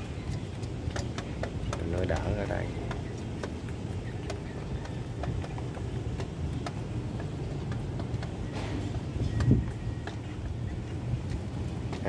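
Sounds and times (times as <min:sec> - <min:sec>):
hen pecking at feed dish: 0:00.0 - 0:12.0
low steady rumble: 0:00.0 - 0:12.0.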